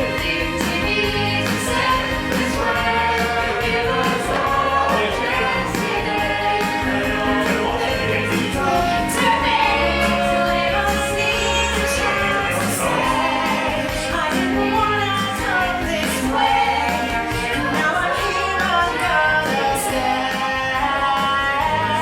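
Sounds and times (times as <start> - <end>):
steady bass line: 0.0 - 22.0
voices singing: 0.0 - 22.0.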